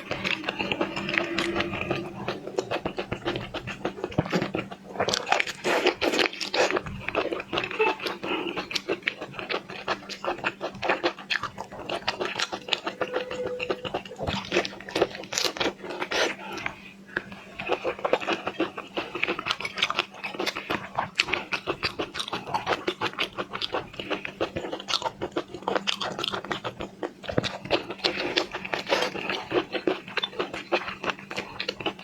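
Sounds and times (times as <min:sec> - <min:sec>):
seafood crunching while chewed: 0:00.0 - 0:32.0.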